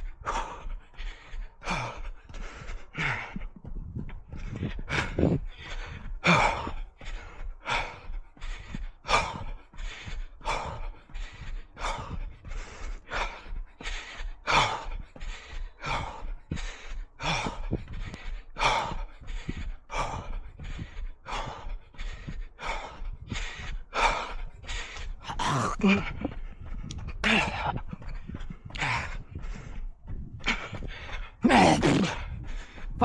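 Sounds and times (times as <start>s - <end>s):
runner breathing hard: 0.0s - 33.0s.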